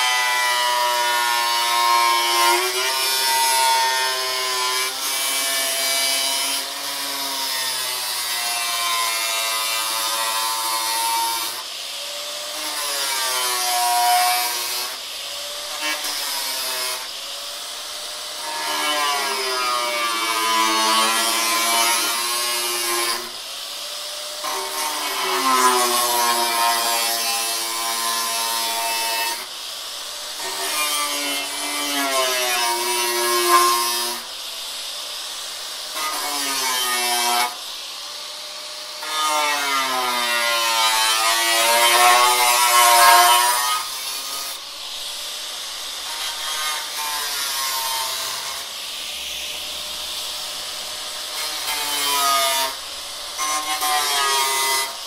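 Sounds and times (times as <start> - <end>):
angle grinder cutting metal: 0.0 - 55.0
gritty hiss from the cut: 0.0 - 55.0.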